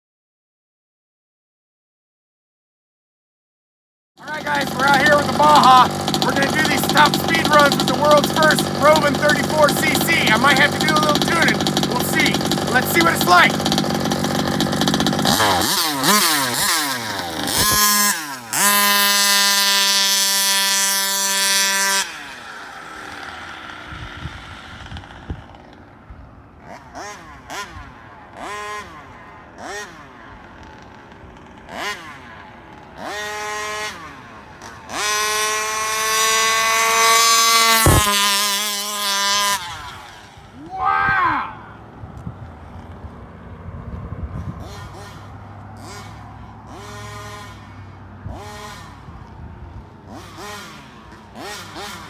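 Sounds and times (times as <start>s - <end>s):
rc car engine high-pitched: 4.2s - 26.1s, 26.7s - 40.9s, 44.6s - 49.1s, 50.1s - 52.0s.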